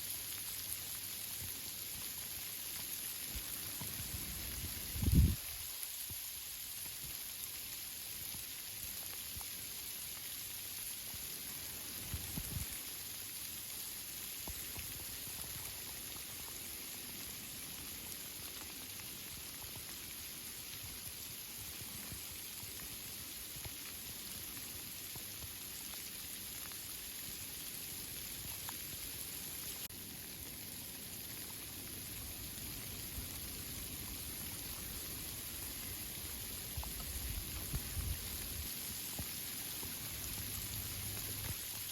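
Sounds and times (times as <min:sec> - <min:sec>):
rain falling on foliage: 0:00.0 - 0:41.9.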